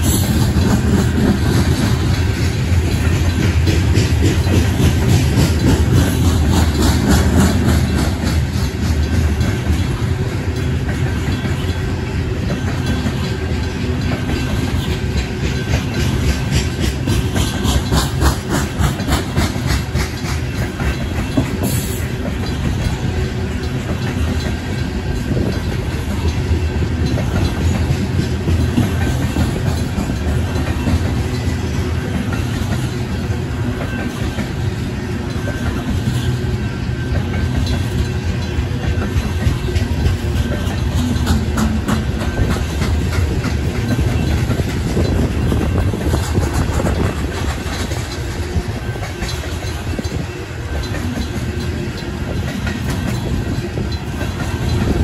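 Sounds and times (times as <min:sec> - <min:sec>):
crossing bells ringing: 0:00.0 - 0:55.0
train rumbling: 0:00.0 - 0:55.0
wheels clacking on rails: 0:00.0 - 0:55.0.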